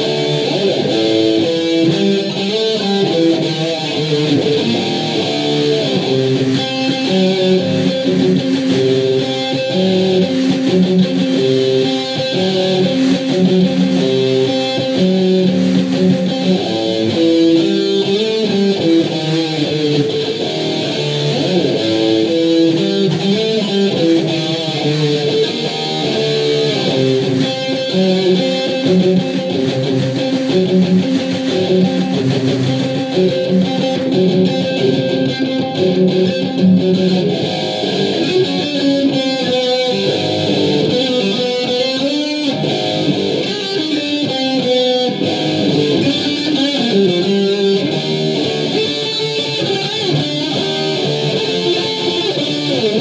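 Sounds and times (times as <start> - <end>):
electric guitar music: 0.0 - 53.0.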